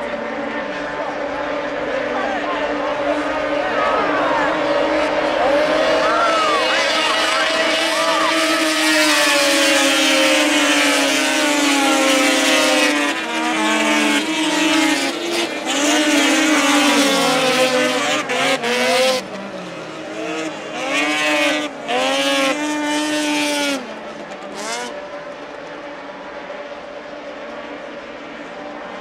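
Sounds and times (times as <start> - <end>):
racing engines at high revs: 0.0 - 29.0.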